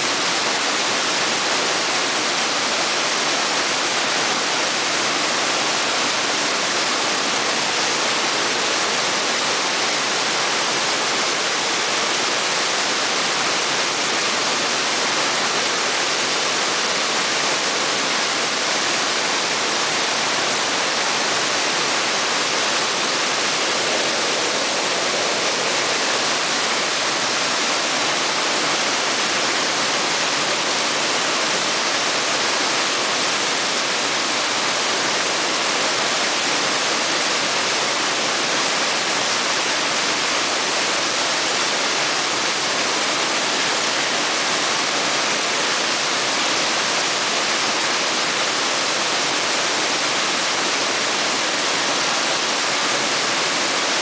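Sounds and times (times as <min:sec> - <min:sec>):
waterfall pouring: 0:00.0 - 0:54.0.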